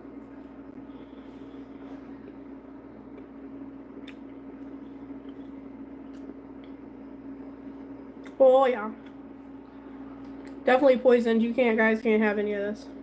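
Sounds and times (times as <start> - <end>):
low hum with faint hiss: 0.0 - 13.0.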